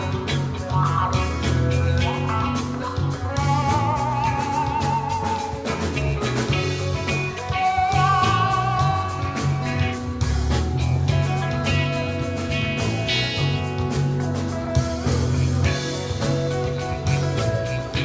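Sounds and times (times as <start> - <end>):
guitar lead with vibrato: 0.0 - 18.0
rock band playing: 0.0 - 18.0.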